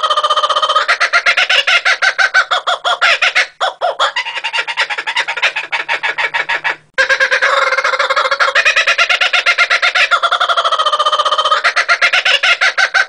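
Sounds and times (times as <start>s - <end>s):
kookaburra laughing call: 0.0s - 13.0s.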